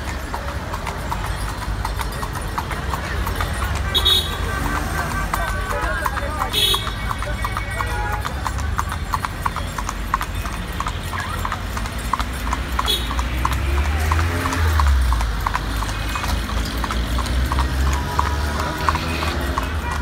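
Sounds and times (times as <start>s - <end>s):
horse hooves clip-clopping on pavement: 0.0s - 20.0s.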